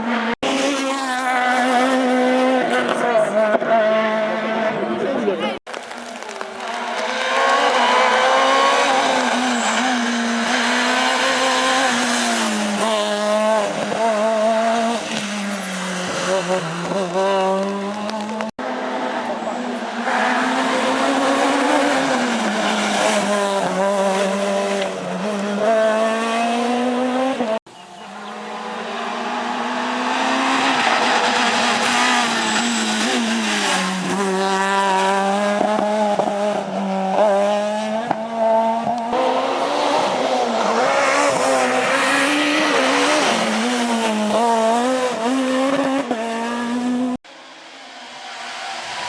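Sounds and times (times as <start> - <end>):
rally car engine at high revs: 0.0 - 49.0.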